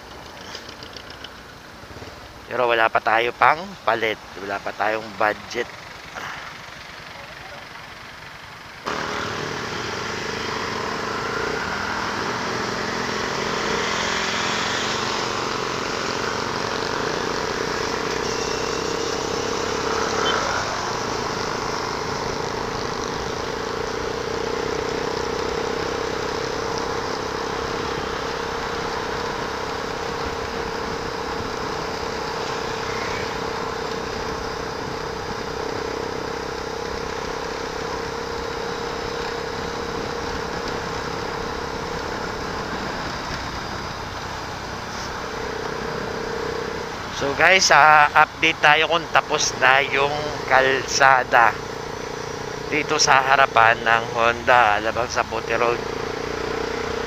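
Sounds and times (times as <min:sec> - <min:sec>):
motorcycle engine running: 0:00.0 - 0:02.4, 0:05.1 - 0:57.0
road noise: 0:00.0 - 0:57.0.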